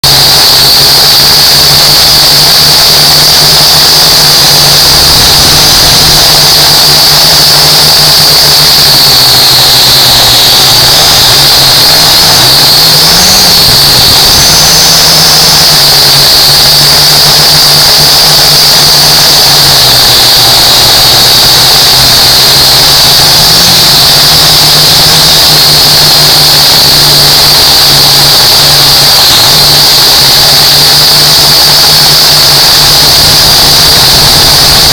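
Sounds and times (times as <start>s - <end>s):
drone propellers whining: 0.0s - 34.9s.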